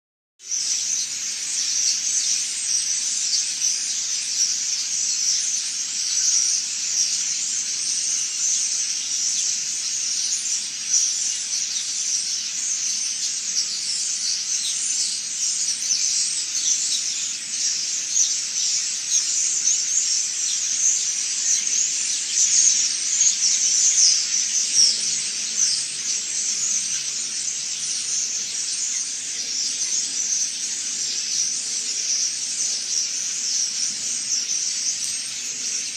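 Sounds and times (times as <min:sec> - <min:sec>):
small birds chirping and twittering: 0:00.4 - 0:35.9.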